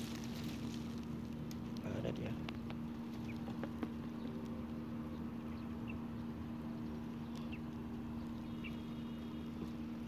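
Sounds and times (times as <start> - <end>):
low rumbling background: 0.0 - 10.0
steady low hum: 0.0 - 10.0.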